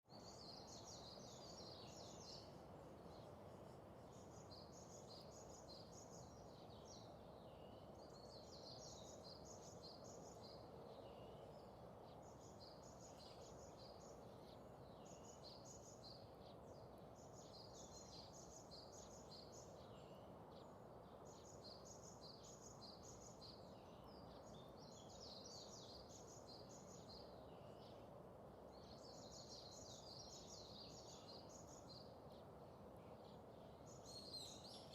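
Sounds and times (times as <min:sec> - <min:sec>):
faint birds chirping: 0:00.0 - 0:34.9
low steady hiss: 0:00.0 - 0:34.9.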